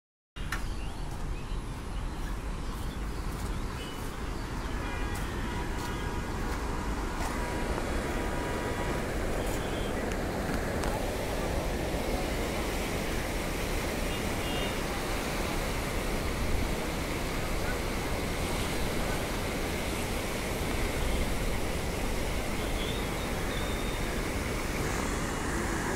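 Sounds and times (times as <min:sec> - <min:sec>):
river rushing: 0:01.1 - 0:25.9.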